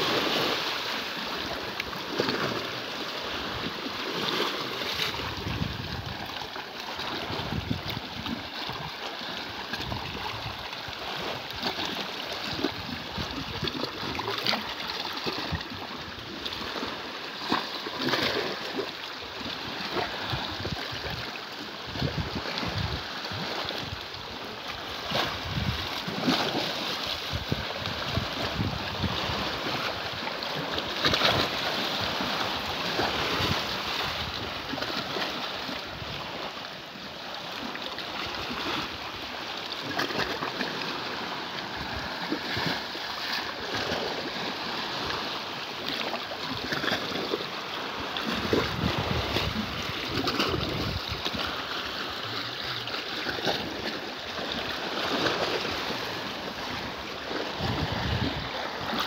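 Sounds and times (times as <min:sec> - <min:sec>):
seawater lapping and splashing: 0:00.0 - 0:59.0
small waves washing on rocks: 0:00.0 - 0:59.0.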